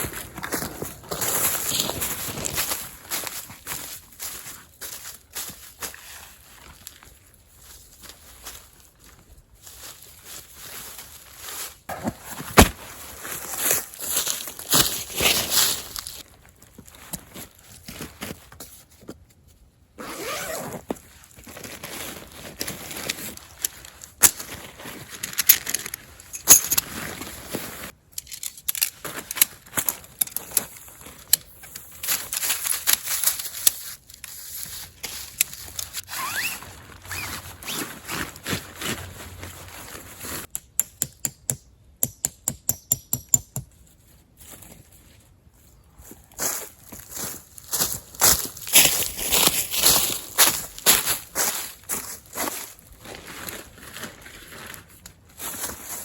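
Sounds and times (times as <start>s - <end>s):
tent fabric rustling and crinkling: 0.0s - 19.0s, 20.0s - 28.0s, 29.0s - 40.5s, 46.2s - 56.0s.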